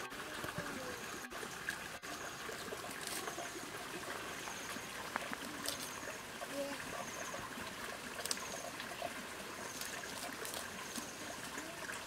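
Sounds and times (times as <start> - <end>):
grass and brush rustling: 2.1 - 11.9.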